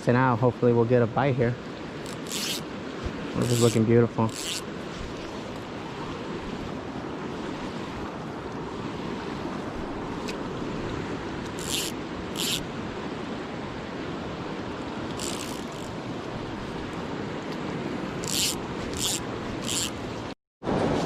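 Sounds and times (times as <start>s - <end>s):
river current rushing: 1.5s - 20.9s.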